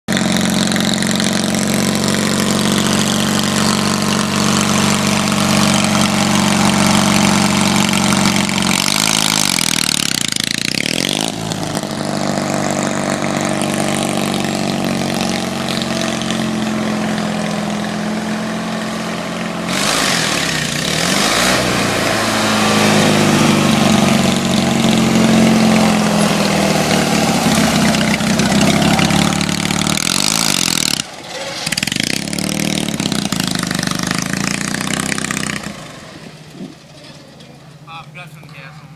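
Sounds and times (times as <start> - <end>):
wheels spinning in mud: 0.1 - 37.8
lawn mower engine running hard: 0.1 - 38.0.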